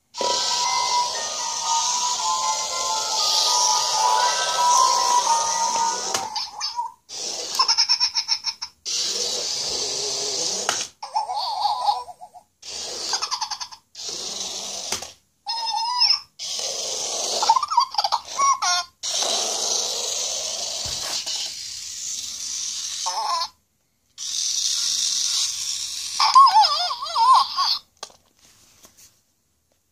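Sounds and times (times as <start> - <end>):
toy electronic giggles and squeaks: 0.2 - 23.6, 24.2 - 28.2.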